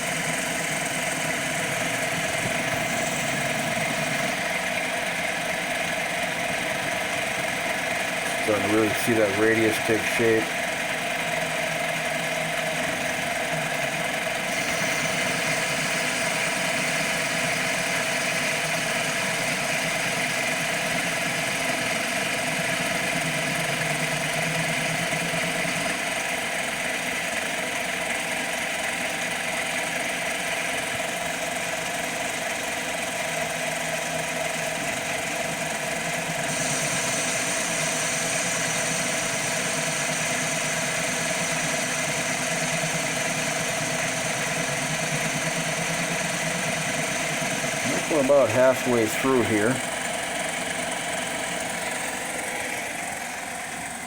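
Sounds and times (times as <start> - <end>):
lathe motor whine: 0.0 - 54.0.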